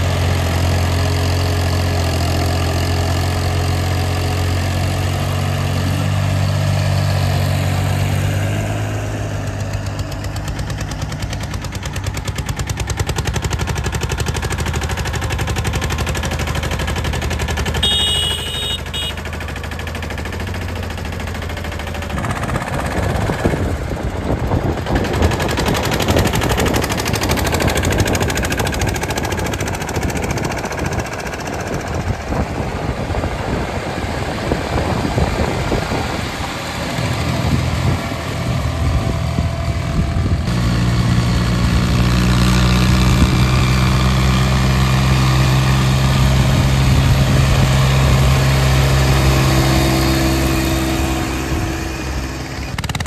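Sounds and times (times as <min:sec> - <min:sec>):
tractor diesel engines chugging: 0:00.0 - 0:53.0.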